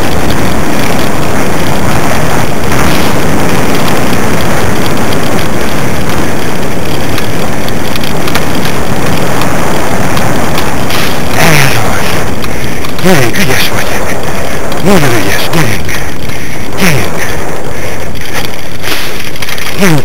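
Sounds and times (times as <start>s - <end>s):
rig rolling over rough track: 0.0s - 20.0s
wind on microphone: 0.0s - 20.0s.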